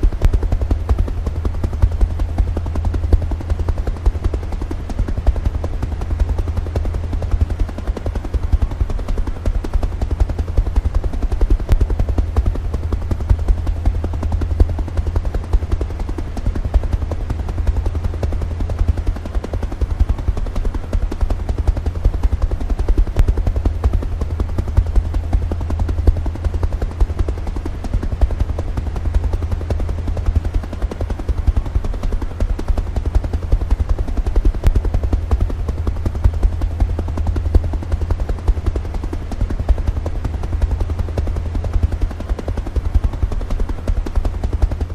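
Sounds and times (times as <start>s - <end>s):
helicopter rotor chopping: 0.0s - 44.9s.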